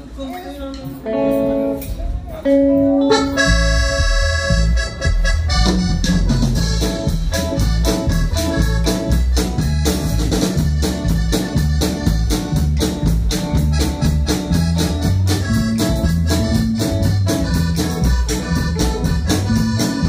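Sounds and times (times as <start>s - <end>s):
live band playing: 0.0s - 20.0s.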